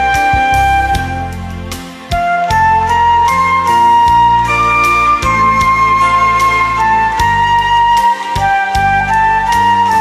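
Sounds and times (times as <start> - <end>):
flute melody: 0.0 - 10.0.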